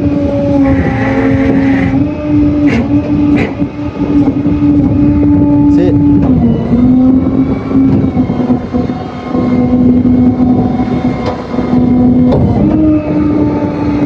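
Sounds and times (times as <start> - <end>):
road rumble: 0.0 - 14.0.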